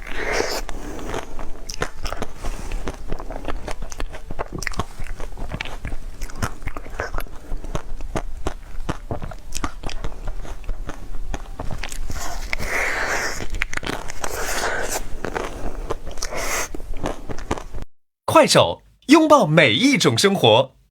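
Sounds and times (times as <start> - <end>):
seafood crunching and chewing: 0.0 - 17.9.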